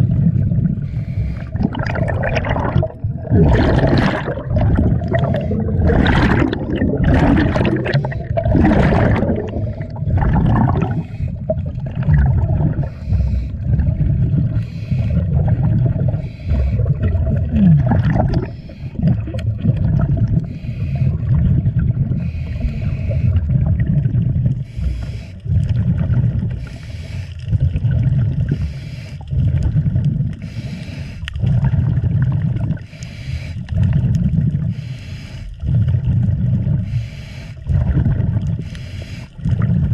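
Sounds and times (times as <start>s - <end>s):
exhaled air bubbling underwater: 0.0s - 39.9s.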